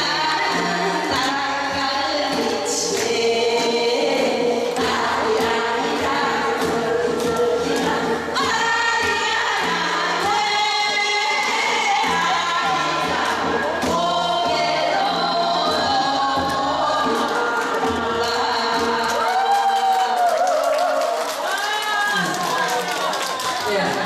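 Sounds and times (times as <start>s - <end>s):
group of people singing: 0.0s - 20.2s.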